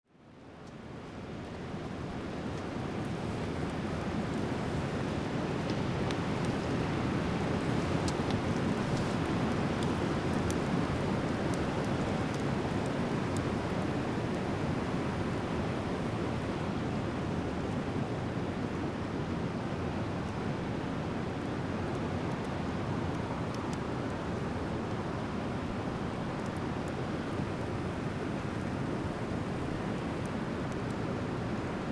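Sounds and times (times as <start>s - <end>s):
wood fire crackling: 1.1s - 31.9s.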